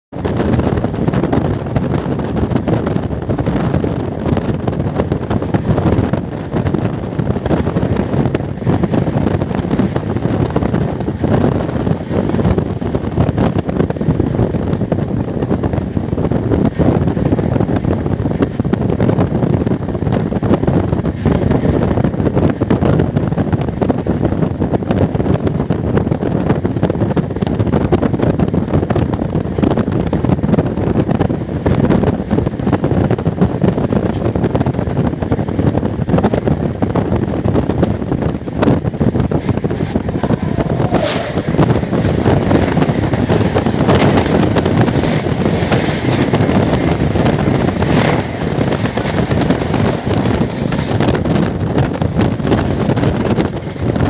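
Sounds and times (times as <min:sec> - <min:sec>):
train wheels rumbling and clattering: 0:00.1 - 0:54.0
wind rushing: 0:00.1 - 0:54.0.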